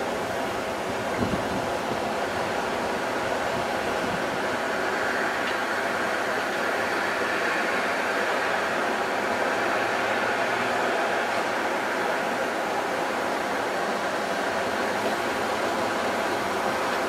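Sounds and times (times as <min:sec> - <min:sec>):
train rumbling on elevated line: 0:00.0 - 0:17.0.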